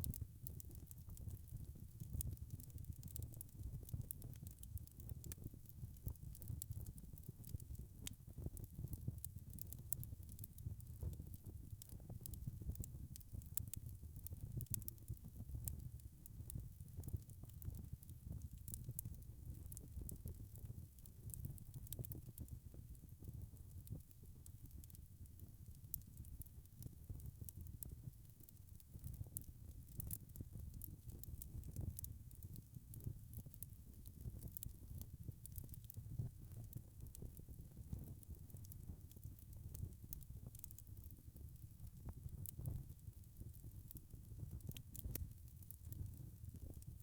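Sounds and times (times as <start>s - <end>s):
fire crackling with pops and snaps: 0.0s - 47.0s
low rumble of burning wood: 0.0s - 47.0s.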